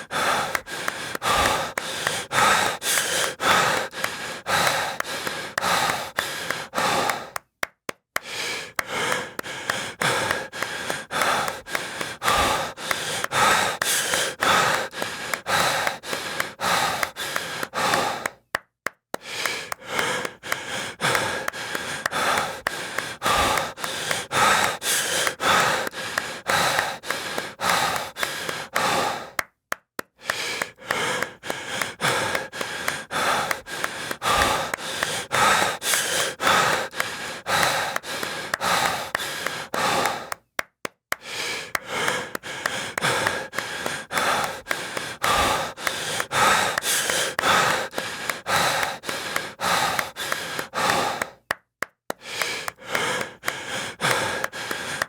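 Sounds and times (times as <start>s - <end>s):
heavy breathing and gasping: 0.0s - 7.6s, 8.2s - 18.6s, 19.2s - 55.0s
rhythmic claps: 0.0s - 55.0s.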